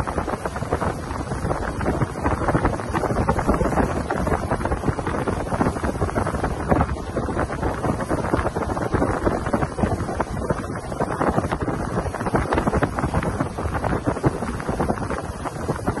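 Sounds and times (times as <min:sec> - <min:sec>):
water rushing along boat hull: 0:00.0 - 0:16.0
wind buffeting microphone: 0:00.0 - 0:16.0.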